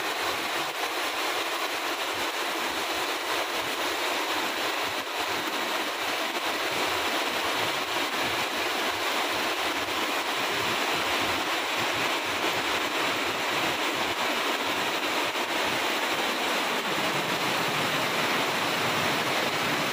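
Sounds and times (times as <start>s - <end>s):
heavy rain on leaves: 0.0s - 19.9s.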